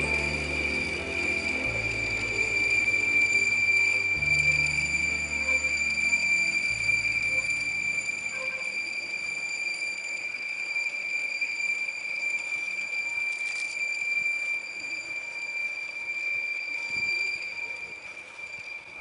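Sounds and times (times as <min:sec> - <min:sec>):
high-pitched whine: 0:00.0 - 0:19.0
train running: 0:00.0 - 0:19.0.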